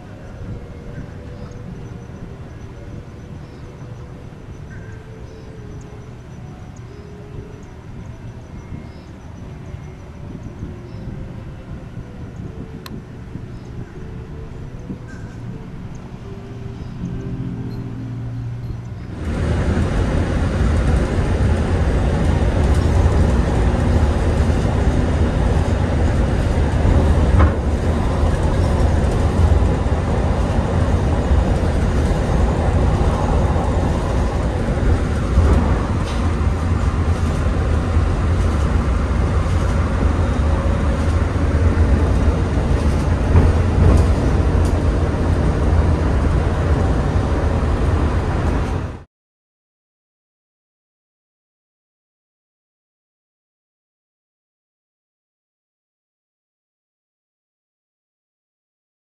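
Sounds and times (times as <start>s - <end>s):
moving vehicle rumble inside cabin: 0.0s - 49.1s.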